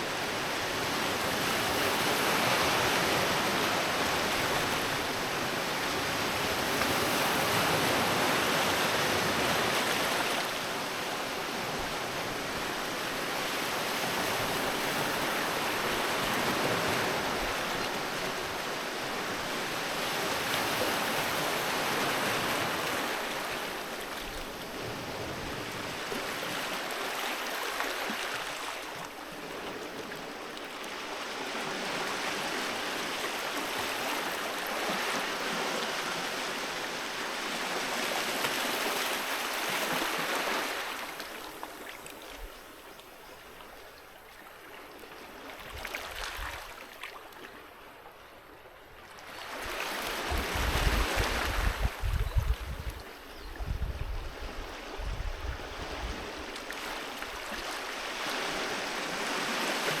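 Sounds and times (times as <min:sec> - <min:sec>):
sea waves breaking on beach: 0:00.0 - 0:42.4, 0:49.1 - 0:53.4, 0:54.2 - 1:00.0.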